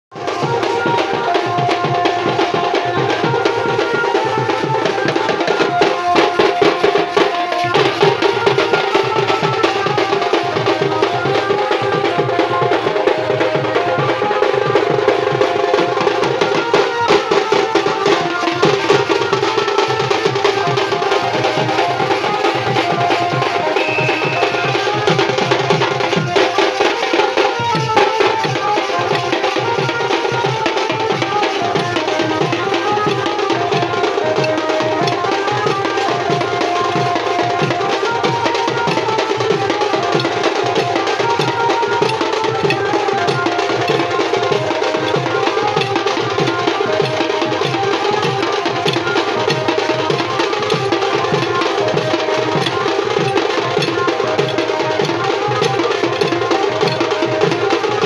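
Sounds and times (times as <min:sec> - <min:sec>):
drums beating fast rhythm: 0:00.1 - 0:58.0.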